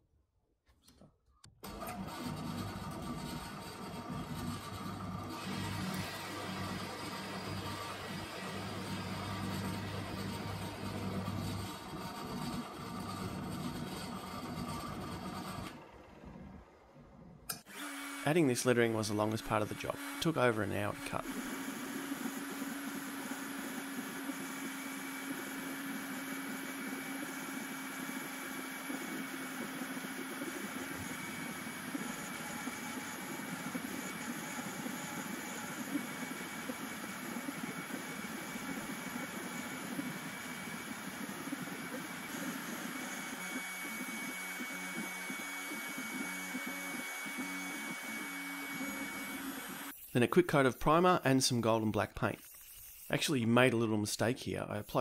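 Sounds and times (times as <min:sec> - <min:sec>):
router spindle whining: 0:01.6 - 0:50.2.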